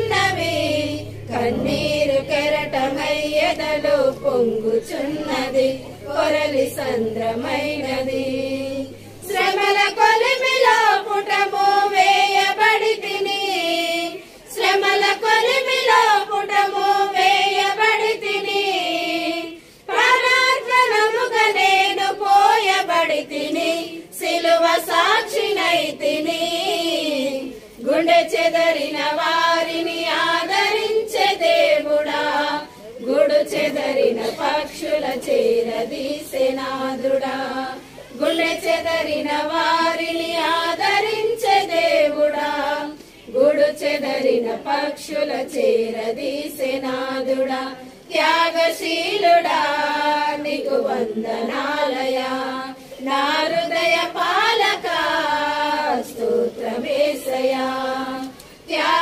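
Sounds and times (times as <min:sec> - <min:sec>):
women singing a hymn: 0:00.0 - 0:59.0.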